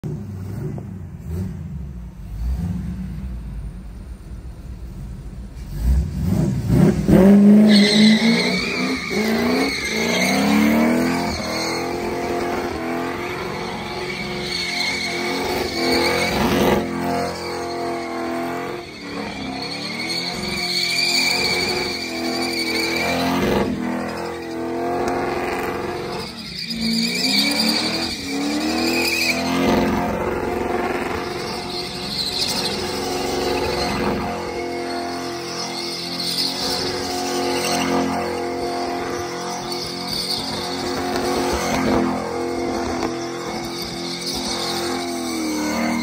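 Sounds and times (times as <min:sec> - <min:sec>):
car engine revving: 0:00.0 - 0:46.0
tyres squealing on concrete: 0:07.1 - 0:46.0.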